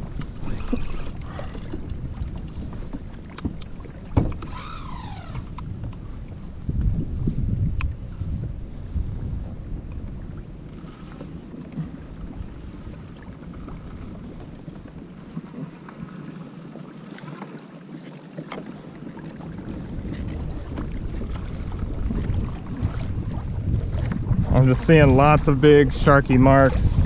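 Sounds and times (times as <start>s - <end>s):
water sloshing against kayak hull: 0.0s - 27.0s
wind rumble on microphone: 0.0s - 27.0s.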